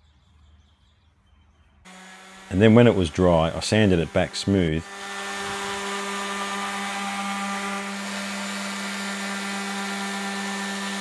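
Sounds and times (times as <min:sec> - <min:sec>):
orbital sander running: 0:01.9 - 0:11.0.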